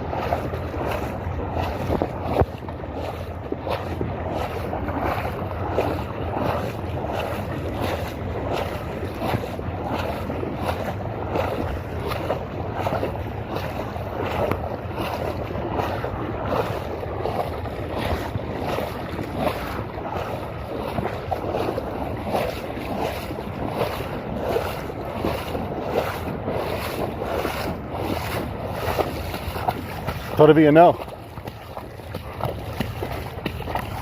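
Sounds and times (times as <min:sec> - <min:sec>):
rushing water: 0:00.0 - 0:34.0
wind buffeting microphone: 0:00.0 - 0:34.0.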